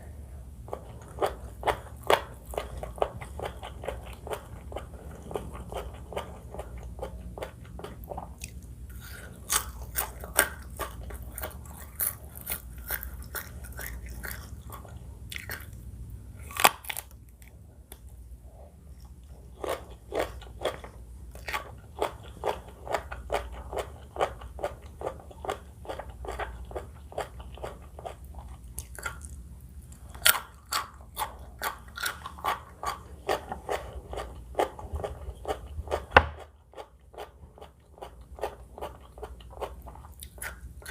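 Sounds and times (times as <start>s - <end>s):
crunchy chewing: 0.7s - 18.2s, 18.8s - 40.9s.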